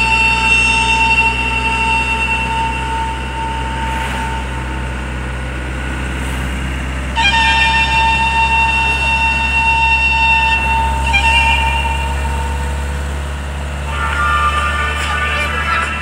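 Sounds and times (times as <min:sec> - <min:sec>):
high-pitched tone: 0:00.0 - 0:06.0, 0:07.2 - 0:16.0
engine and road rumble: 0:00.0 - 0:16.0.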